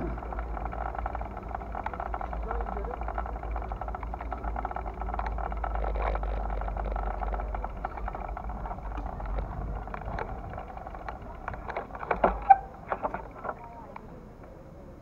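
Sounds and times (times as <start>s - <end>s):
low rumble: 0.0s - 14.2s
small clicks and rustles: 0.0s - 14.6s.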